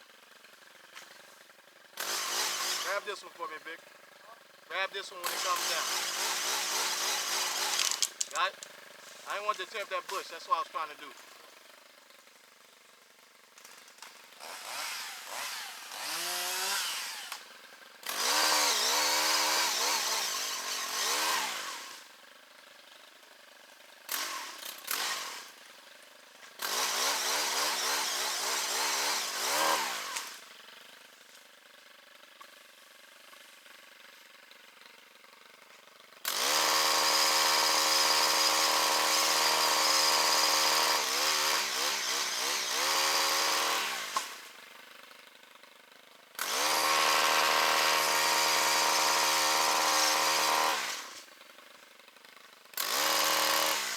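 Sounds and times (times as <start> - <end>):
chainsaw revving: 0.4 - 12.2, 13.1 - 22.6, 23.2 - 31.6, 35.5 - 44.9, 46.4 - 51.7, 52.7 - 53.9.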